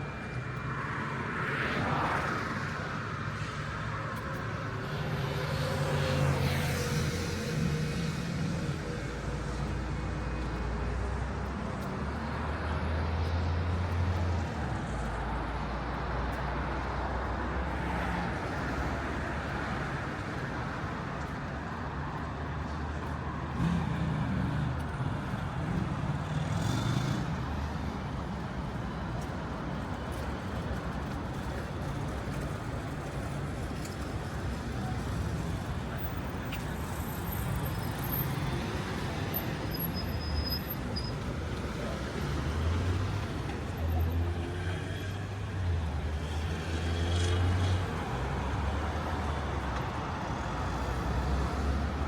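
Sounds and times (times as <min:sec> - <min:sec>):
tyre and road noise: 0:00.0 - 0:52.0.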